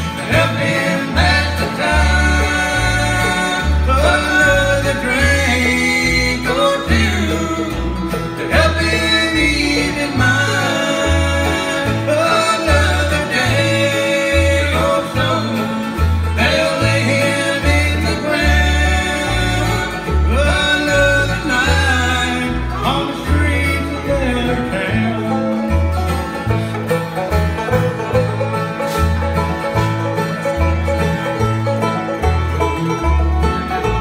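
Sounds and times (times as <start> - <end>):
banjo: 0.0 - 34.0
bass alternating low notes: 0.0 - 34.0
fiddle: 0.0 - 34.0
strummed acoustic guitar: 0.0 - 34.0.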